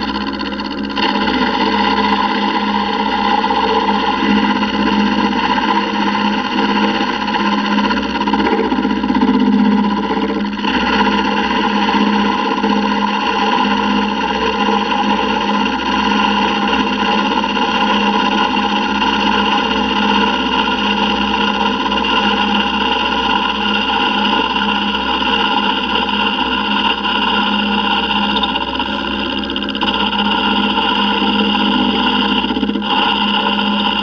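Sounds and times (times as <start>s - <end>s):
milling machine cutting metal: 0.0s - 34.0s.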